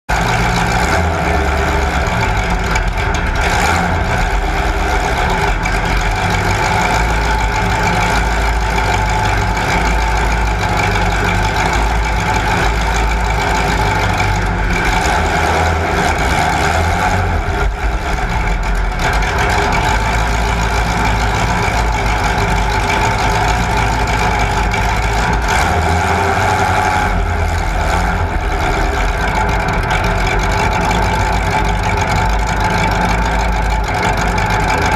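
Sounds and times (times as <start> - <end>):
motor vehicle engines rumbling: 0.0 - 34.9.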